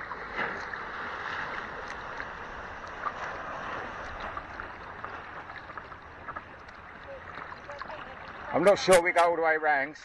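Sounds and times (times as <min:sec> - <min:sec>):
soft paddle splashes: 0:00.0 - 0:09.3
water lapping around board: 0:00.0 - 0:10.0.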